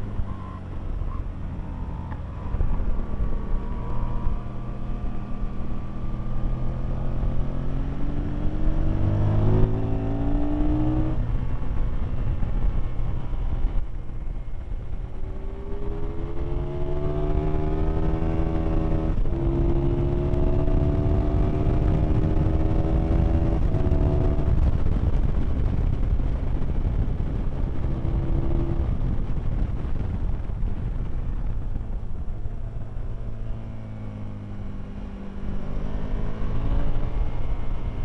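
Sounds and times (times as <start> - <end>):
motorcycle engine accelerating: 0.0 - 38.0
wind rush on microphone: 0.0 - 38.0.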